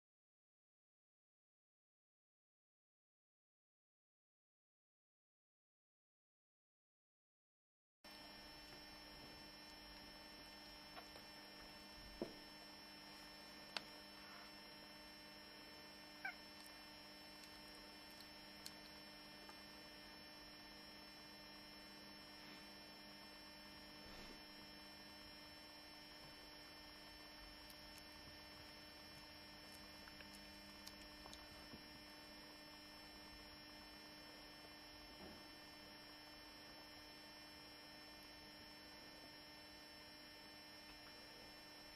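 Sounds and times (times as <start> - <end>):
electrical mains hum: 8.1 - 41.9.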